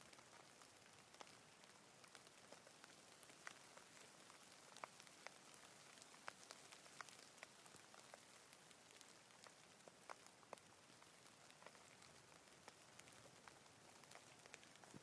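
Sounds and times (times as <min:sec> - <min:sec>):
rain hiss: 0:00.0 - 0:15.0
raindrops ticking close by: 0:00.0 - 0:15.0.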